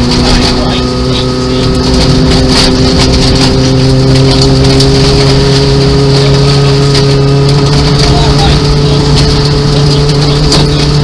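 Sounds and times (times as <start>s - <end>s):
rally car engine running hard: 0.0s - 11.0s
tyres rushing on gravel: 0.0s - 11.0s.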